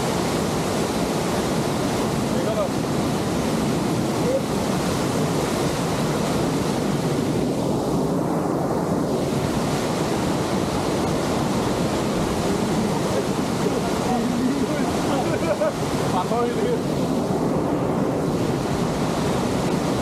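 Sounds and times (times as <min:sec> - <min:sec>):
rushing water: 0:00.0 - 0:20.0
wind buffeting microphone: 0:00.0 - 0:20.0.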